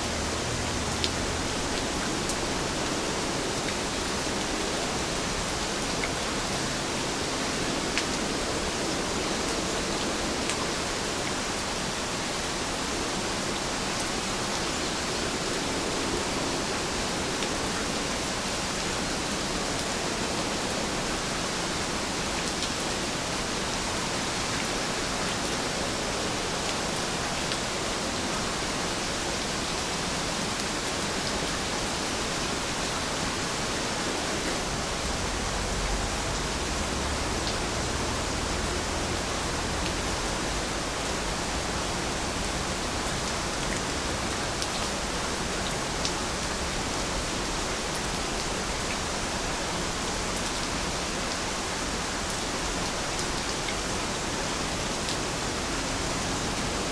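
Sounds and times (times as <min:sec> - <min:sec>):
heavy rain hiss: 0:00.0 - 0:56.9.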